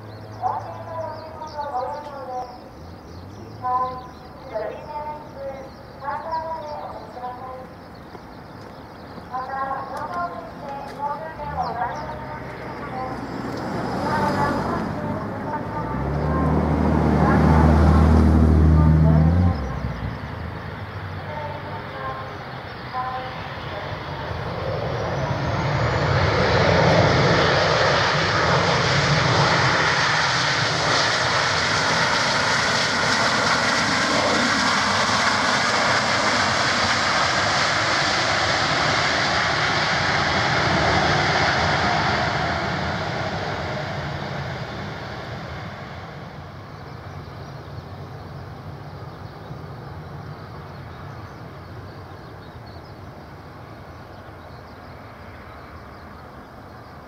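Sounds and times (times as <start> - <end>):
jet engines in reverse thrust: 0.0 - 57.0.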